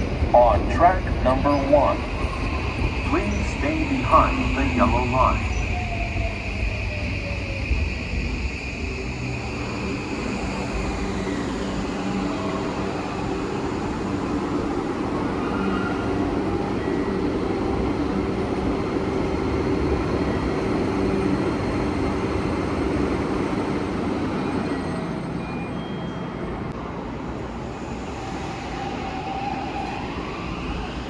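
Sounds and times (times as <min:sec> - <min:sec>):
electric train running: 0:00.0 - 0:26.0.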